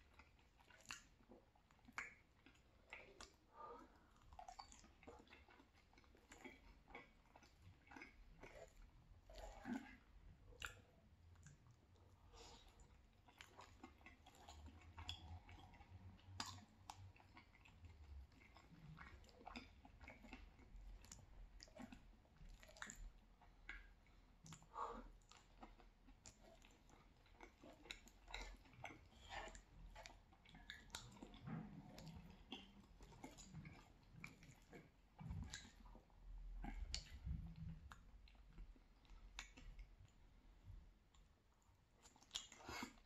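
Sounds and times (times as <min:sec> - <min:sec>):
person chewing: 0:00.0 - 0:41.3, 0:41.9 - 0:43.0.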